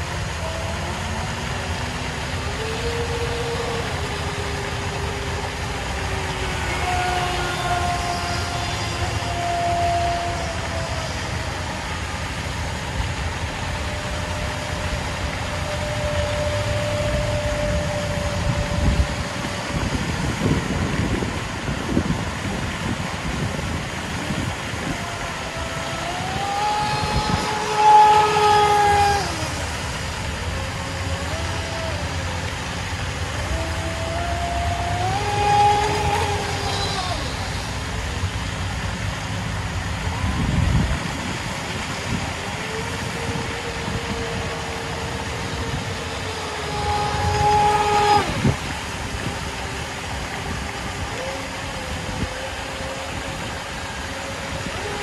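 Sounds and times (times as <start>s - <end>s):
background hiss: 0.0s - 55.0s
electric motor whining: 0.0s - 55.0s
wind rumble: 0.0s - 55.0s.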